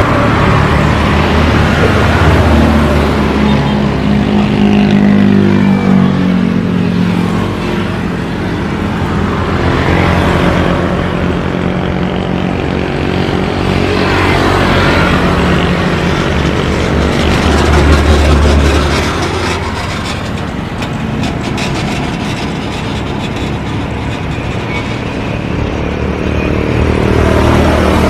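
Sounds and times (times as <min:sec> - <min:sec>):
jet airliner engines rumbling: 0:00.0 - 0:28.0.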